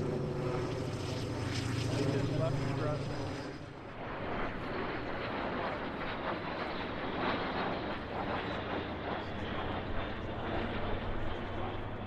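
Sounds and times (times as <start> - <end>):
jets flying overhead: 0.0 - 12.0.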